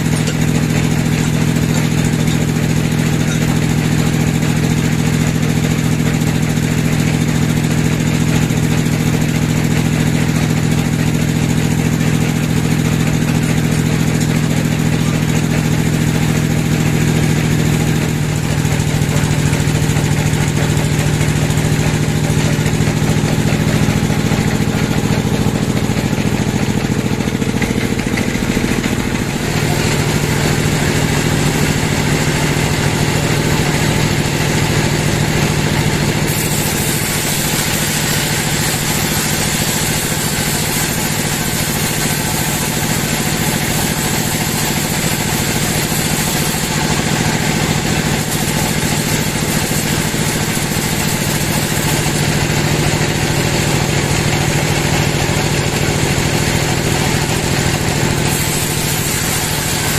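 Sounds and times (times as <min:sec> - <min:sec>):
sawmill mechanical drone: 0:00.0 - 0:59.9.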